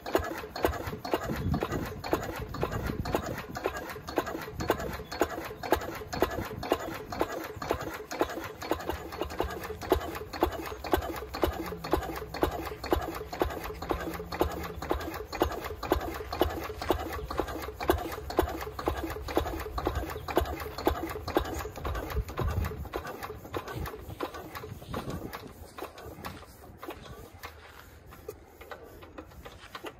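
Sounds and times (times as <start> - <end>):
diesel engine running slowly: 0.0 - 29.9.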